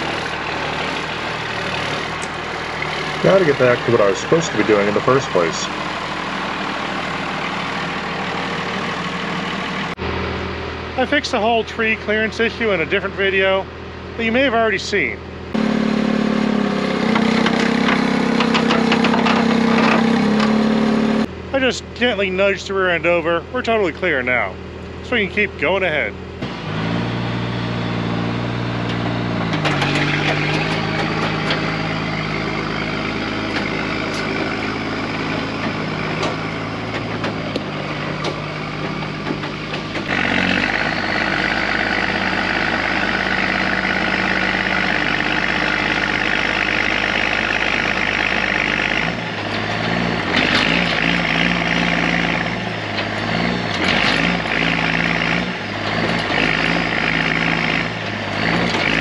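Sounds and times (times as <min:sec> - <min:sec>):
heavy truck engine under load: 0:00.0 - 0:59.0.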